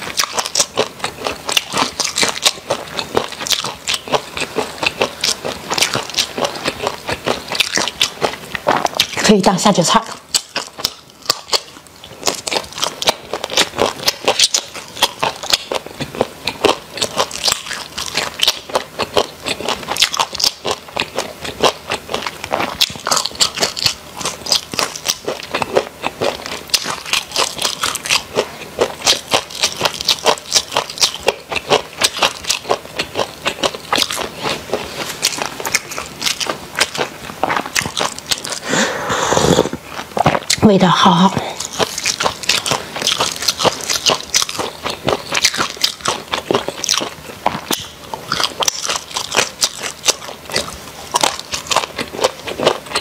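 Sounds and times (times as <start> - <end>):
crunching crispy fried food: 0.0 - 9.4, 10.0 - 40.7, 41.4 - 53.0.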